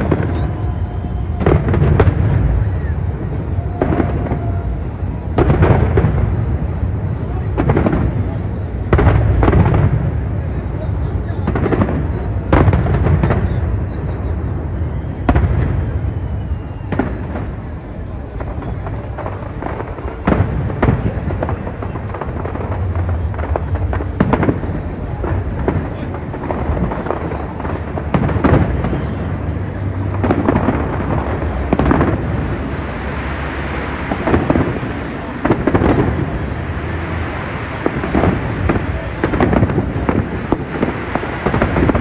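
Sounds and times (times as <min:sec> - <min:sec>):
continuous low rumble: 0:00.0 - 0:42.0
fireworks bangs: 0:00.0 - 0:42.0.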